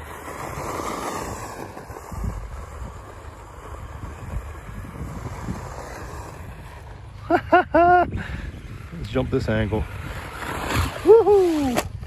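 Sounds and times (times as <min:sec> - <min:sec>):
wind buffeting microphone: 0:01.2 - 0:12.0.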